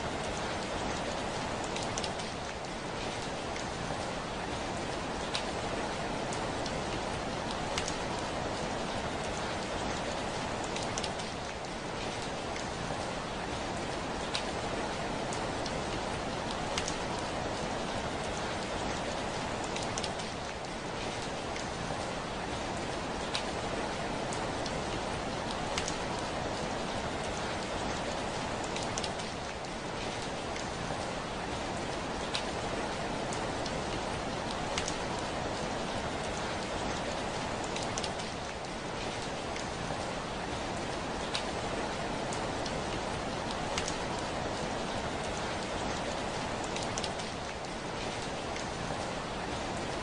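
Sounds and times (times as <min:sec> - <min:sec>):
heavy rain on a window: 0:00.0 - 0:50.0.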